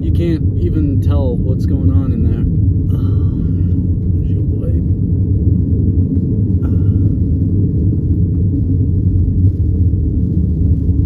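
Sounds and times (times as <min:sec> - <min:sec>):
vehicle rumble on dirt road: 0:00.0 - 0:11.0.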